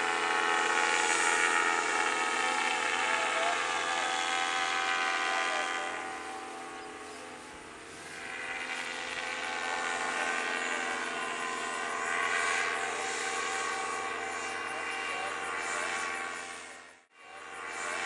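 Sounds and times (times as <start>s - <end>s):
paramotor engine droning: 0.0s - 18.0s.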